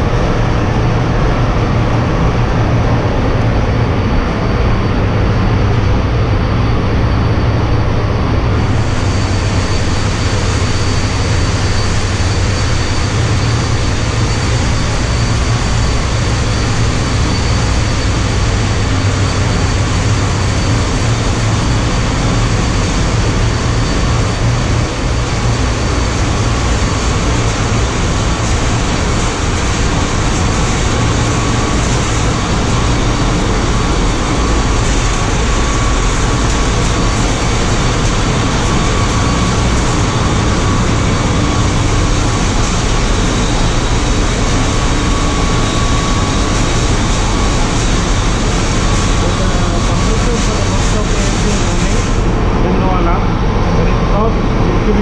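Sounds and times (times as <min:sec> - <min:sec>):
engine room machinery drone: 0:00.0 - 0:55.0
faint high whine: 0:00.0 - 0:55.0.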